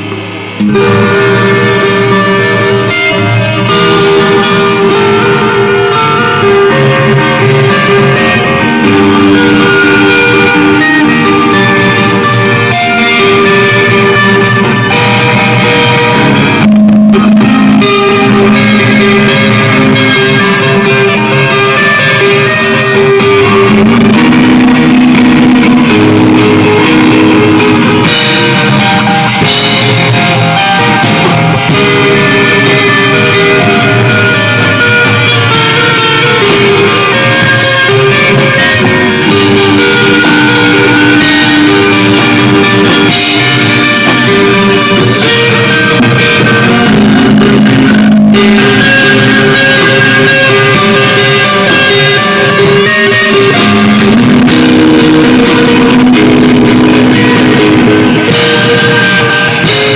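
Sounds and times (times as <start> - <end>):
rock band playing loud: 0.0 - 59.9.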